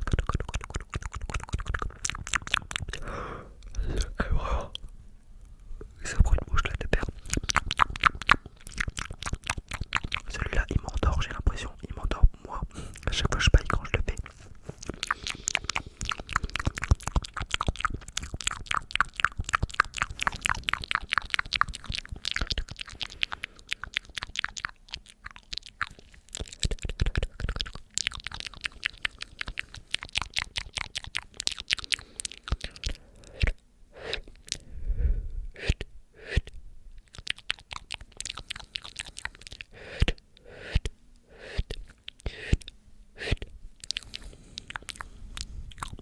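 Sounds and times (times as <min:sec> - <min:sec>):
mouth clicks: 0:00.0 - 0:34.7, 0:35.5 - 0:46.0.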